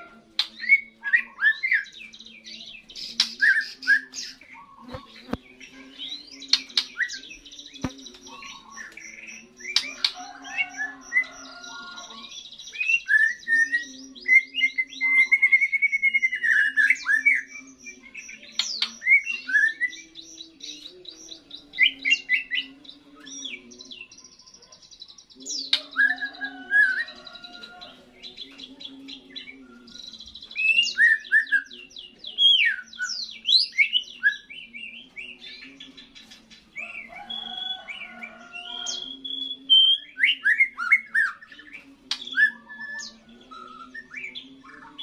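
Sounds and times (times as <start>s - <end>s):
songbird whistling and trilling: 0.0s - 5.0s, 6.0s - 35.6s, 36.8s - 45.0s.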